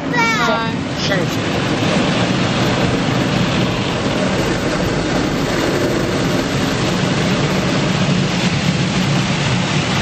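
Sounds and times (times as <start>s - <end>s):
car wash machinery rumble: 0.0s - 10.0s
water hissing across car: 0.6s - 10.0s.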